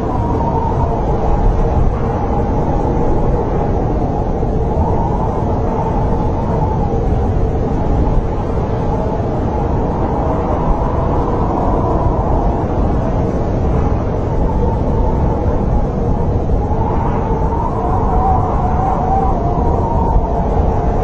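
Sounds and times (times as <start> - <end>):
snowstorm wind rumbling: 0.0 - 21.0.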